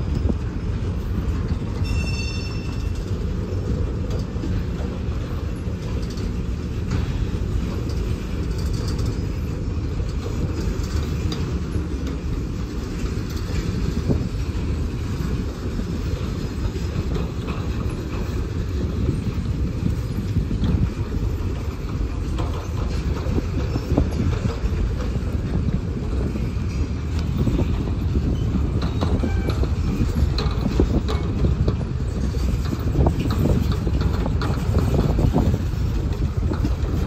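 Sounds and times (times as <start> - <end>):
freight train cars rolling past: 0.0 - 37.0
train wheel squeal: 0.0 - 37.0.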